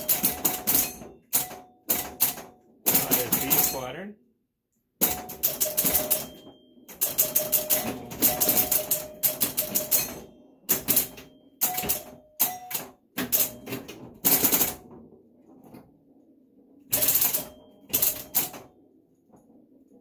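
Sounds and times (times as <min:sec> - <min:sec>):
pinball machine mechanical clacking: 0:00.0 - 0:04.1, 0:05.0 - 0:20.0.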